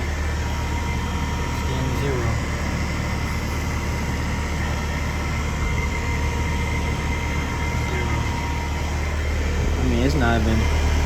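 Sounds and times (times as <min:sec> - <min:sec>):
faint whine: 0:00.0 - 0:11.0.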